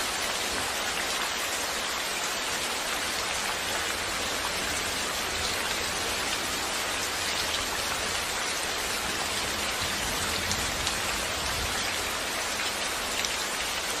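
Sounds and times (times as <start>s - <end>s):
rain hiss on surface: 0.0s - 14.0s.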